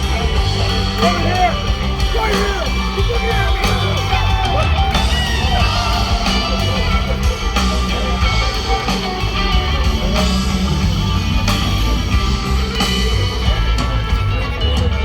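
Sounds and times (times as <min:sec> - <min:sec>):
electric guitar: 0:00.0 - 0:15.0
rock band playing live: 0:00.0 - 0:15.0.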